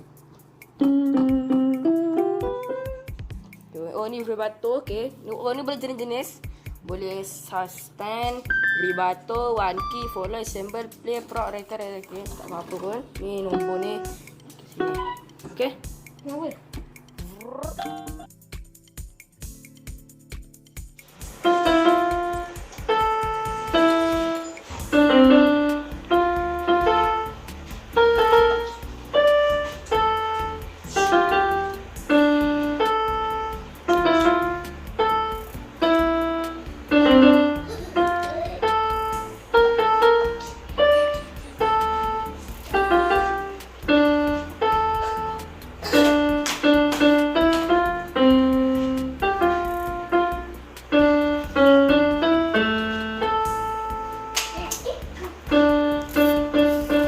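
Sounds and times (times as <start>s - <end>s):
electronic keyboard piano melody: 0.0s - 6.2s, 8.0s - 57.0s.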